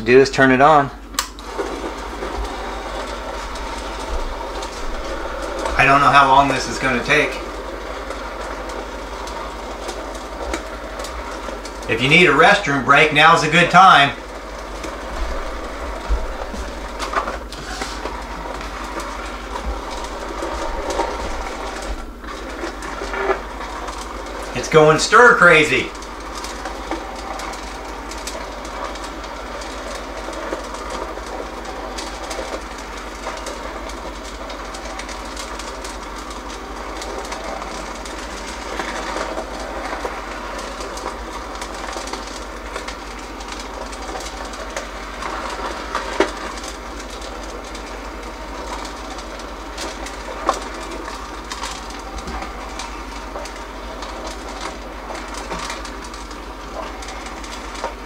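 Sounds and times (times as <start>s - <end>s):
motor hum: 0.0s - 58.0s
kernels rattling in popper: 8.5s - 58.0s.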